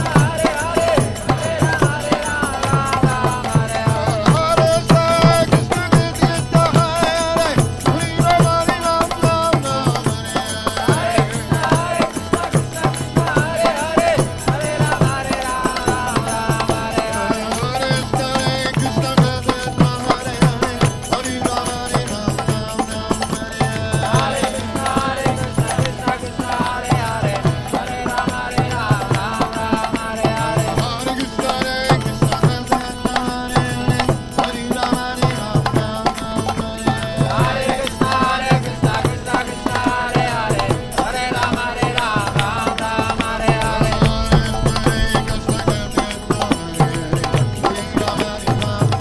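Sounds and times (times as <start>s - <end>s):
group call-and-response chanting: 0.0s - 49.0s
hand drum beating: 0.0s - 49.0s.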